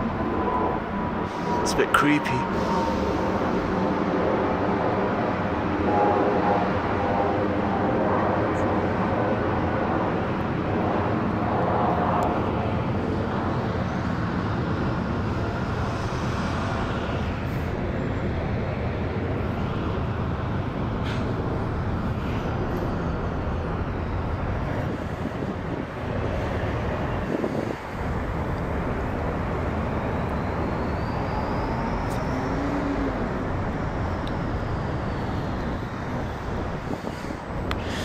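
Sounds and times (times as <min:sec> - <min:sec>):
jet airliner passing overhead: 0:00.0 - 0:38.0.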